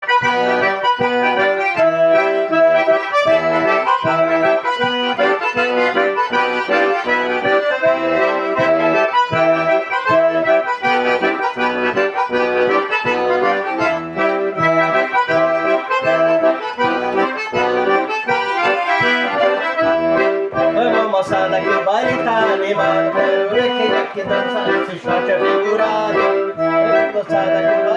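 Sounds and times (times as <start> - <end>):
accordions playing: 0.0 - 27.9.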